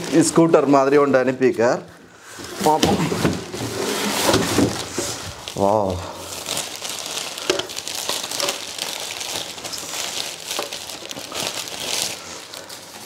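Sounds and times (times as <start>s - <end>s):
plastic bags crinkling: 0.0s - 1.7s, 2.6s - 13.0s.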